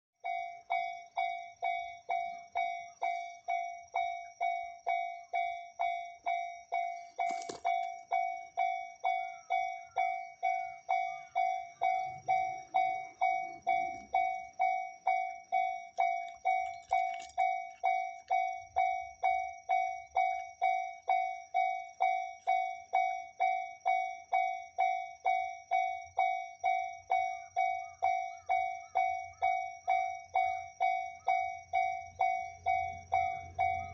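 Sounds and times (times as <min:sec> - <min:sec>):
level crossing bell clanging: 0:00.3 - 0:33.9.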